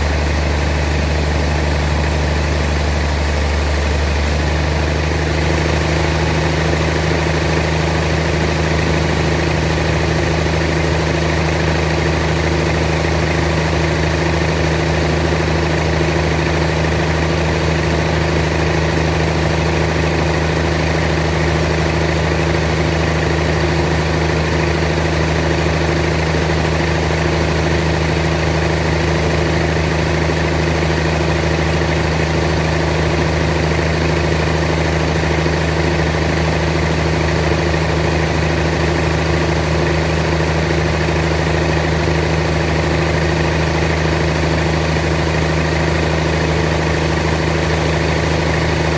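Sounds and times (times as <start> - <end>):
sawmill machinery hum: 0.0 - 48.9.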